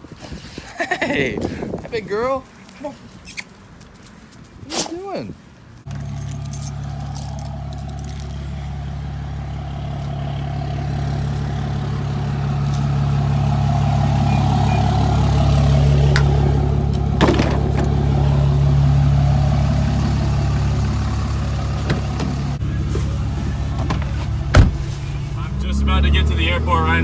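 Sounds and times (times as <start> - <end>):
vehicle engine and road drone: 1.6 - 27.0.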